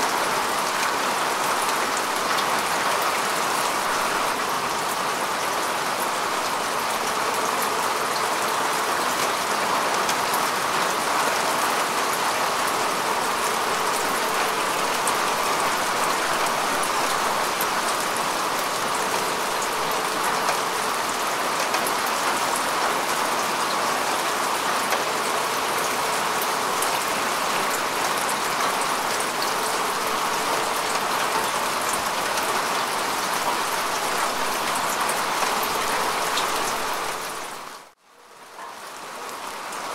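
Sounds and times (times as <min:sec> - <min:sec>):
rain falling on grass: 0:00.0 - 0:39.9.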